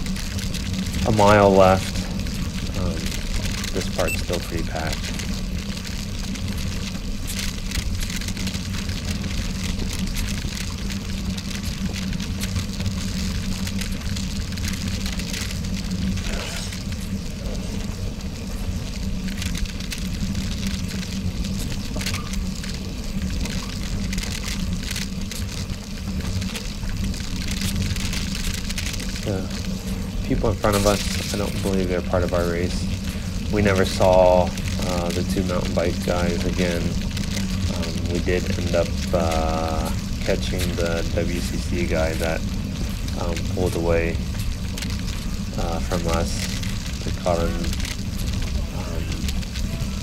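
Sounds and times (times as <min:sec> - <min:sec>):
gravel crackling: 0:00.0 - 0:50.0
tyres rolling on gravel: 0:00.0 - 0:50.0.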